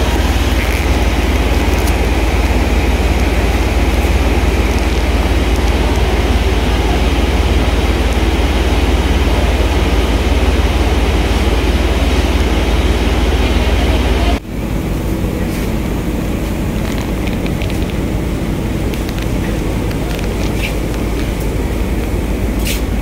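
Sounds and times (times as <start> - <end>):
machinery droning: 0.0 - 23.0.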